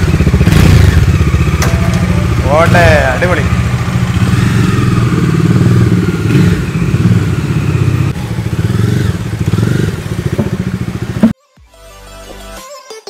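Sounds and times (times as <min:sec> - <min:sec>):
motorcycle engine at low revs: 0:00.0 - 0:11.4.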